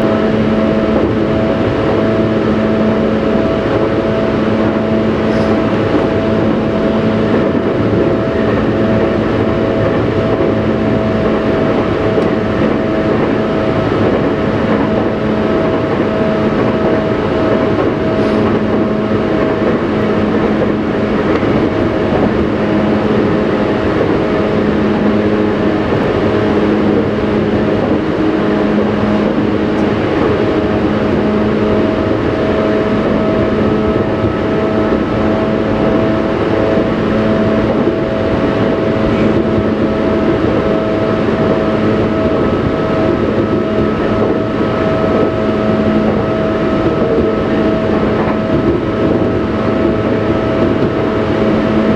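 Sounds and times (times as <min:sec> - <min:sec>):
train running gear humming: 0:00.0 - 0:51.9
wheels rumbling on rails: 0:00.0 - 0:51.9.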